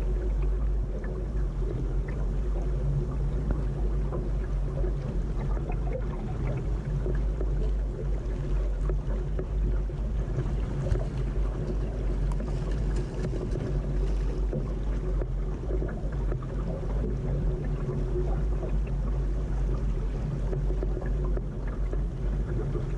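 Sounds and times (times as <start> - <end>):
water washing along hull: 0.0 - 22.9
small knocks and ticks: 3.4 - 22.9.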